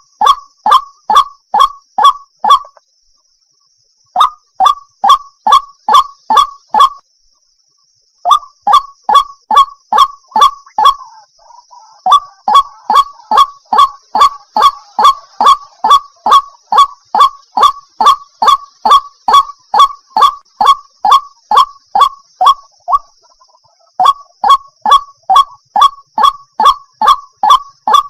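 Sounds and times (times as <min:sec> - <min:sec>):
waterhen calling: 0:04.2 - 0:07.0, 0:08.3 - 0:28.0.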